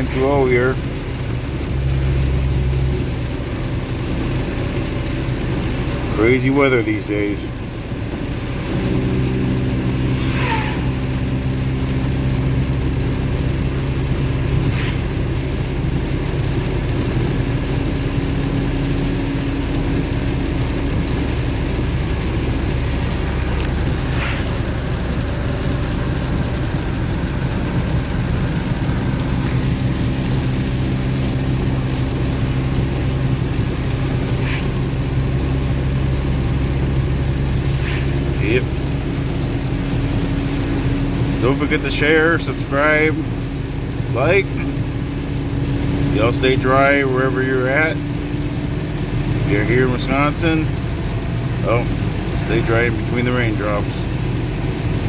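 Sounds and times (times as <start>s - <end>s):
pickup engine idling: 0.0s - 55.0s
rain hissing: 0.0s - 55.0s.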